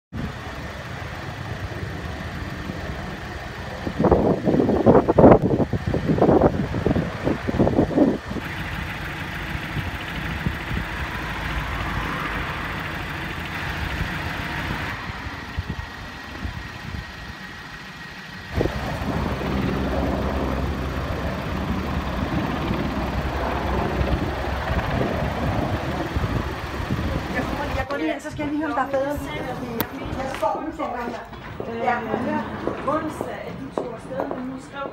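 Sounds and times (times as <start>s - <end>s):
emergency vehicle engines idling: 0.1s - 34.9s
helicopter hovering: 0.2s - 33.8s.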